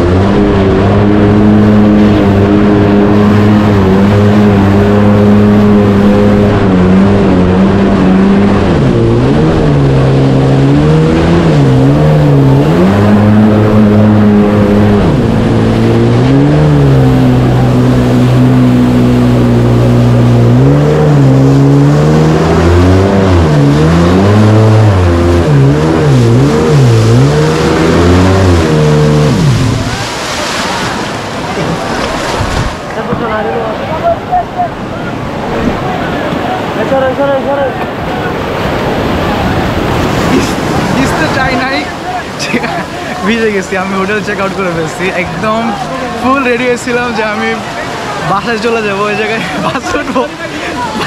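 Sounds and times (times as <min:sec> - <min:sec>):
motorboat engine revving: 0:00.0 - 0:51.0.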